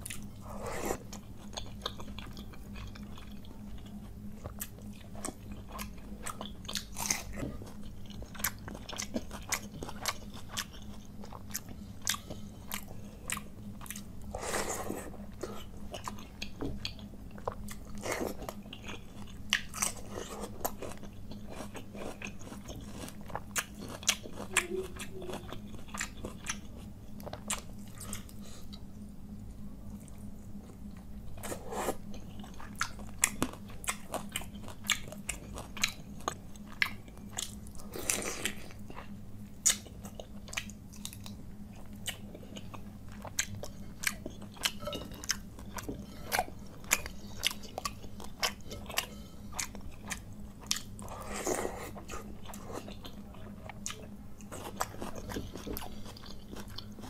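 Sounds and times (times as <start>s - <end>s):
chewing with crunches: 0.0s - 57.0s.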